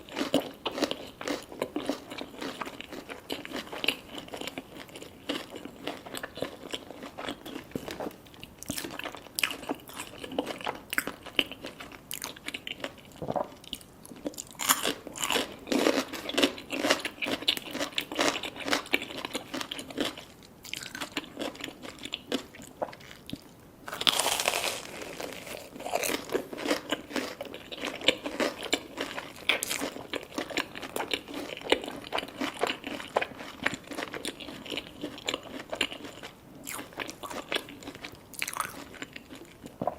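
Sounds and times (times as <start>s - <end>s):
crunching crispy food: 0.0s - 13.4s, 14.3s - 39.6s
chewing: 0.0s - 39.9s.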